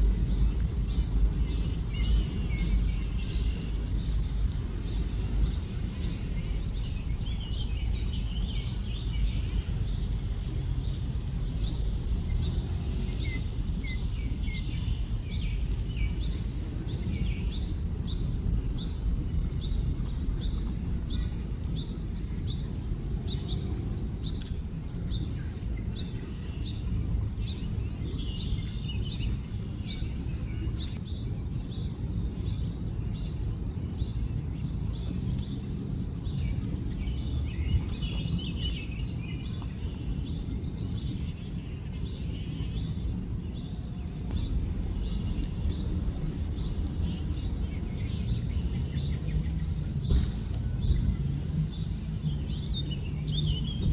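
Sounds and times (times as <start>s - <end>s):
low outdoor rumble: 0.0s - 53.9s
small birds chirping: 0.0s - 53.9s.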